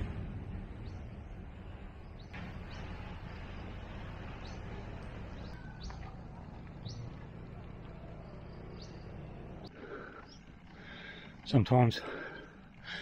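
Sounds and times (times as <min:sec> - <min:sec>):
birds chirping high rising notes: 0:00.0 - 0:10.8.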